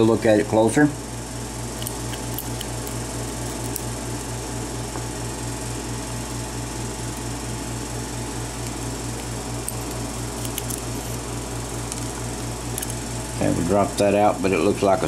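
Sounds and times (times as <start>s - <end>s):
pulsing mechanical hum: 0.0s - 15.0s.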